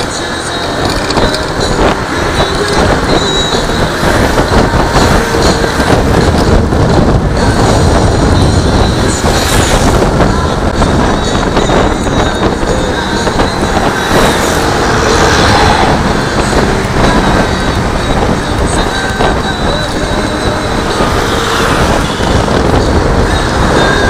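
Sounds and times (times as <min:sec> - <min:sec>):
scooter road noise: 0:00.0 - 0:24.0
wind rushing over microphone: 0:00.0 - 0:24.0.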